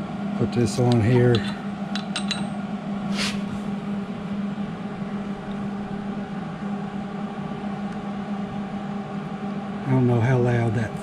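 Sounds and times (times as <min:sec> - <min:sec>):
cooling fan humming: 0:00.0 - 0:11.0.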